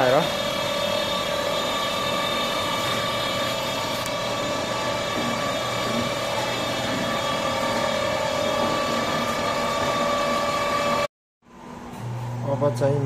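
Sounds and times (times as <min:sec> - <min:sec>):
machinery humming and whining: 0:00.0 - 0:13.0.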